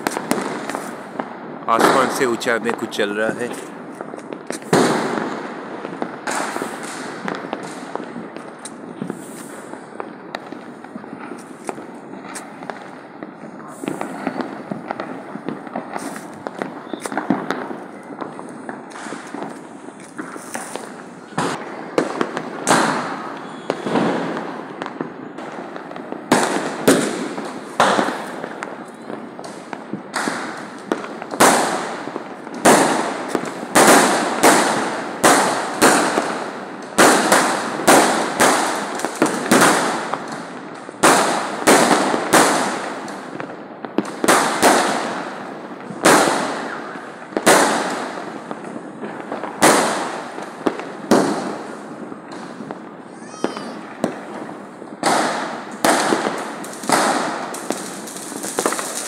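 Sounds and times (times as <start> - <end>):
firecrackers banging with echo: 0.0 - 59.0.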